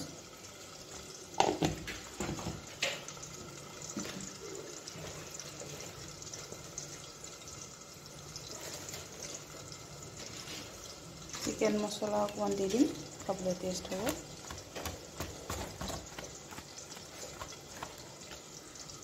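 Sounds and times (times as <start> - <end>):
potatoes frying in hot oil: 0.0 - 19.0.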